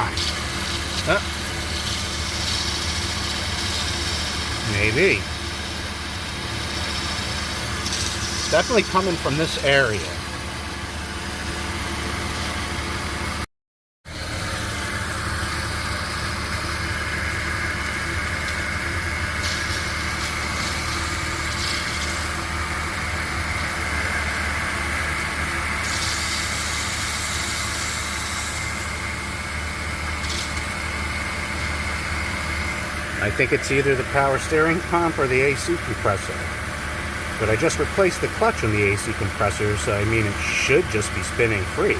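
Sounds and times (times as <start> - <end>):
car engine idling: 0.0 - 13.4, 14.1 - 41.9
high-pitched belt whine: 0.0 - 13.4, 14.1 - 41.9.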